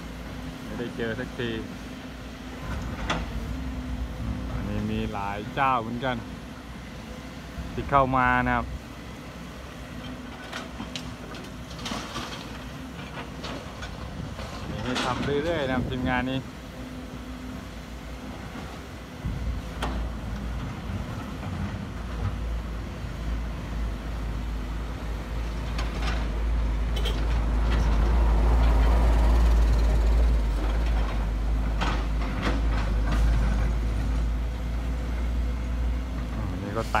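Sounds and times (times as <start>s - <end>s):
heavy machinery engine rumble: 0.0s - 37.0s.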